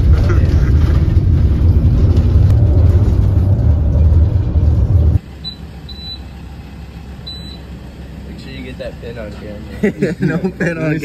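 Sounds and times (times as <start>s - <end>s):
van cabin road rumble: 0.0s - 11.0s.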